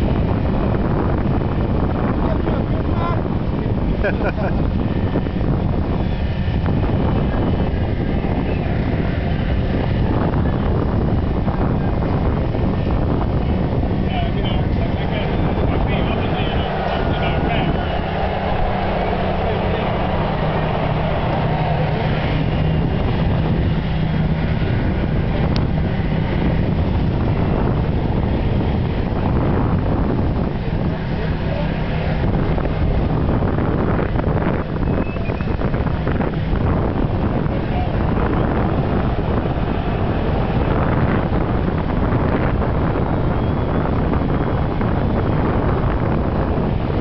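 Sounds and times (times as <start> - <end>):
boat engines humming: 0.0 - 47.0
wind buffeting microphone: 0.0 - 47.0.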